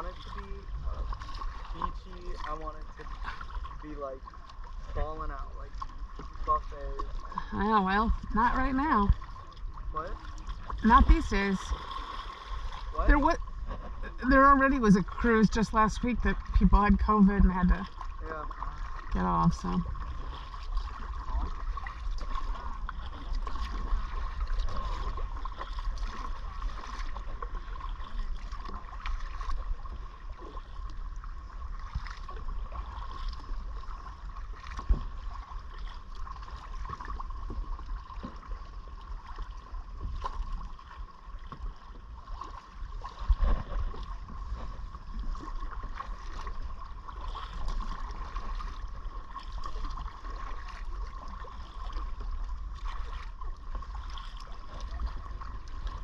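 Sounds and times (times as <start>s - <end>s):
low steady rumble: 0.0s - 56.0s
water splashing around kayak: 0.0s - 56.0s.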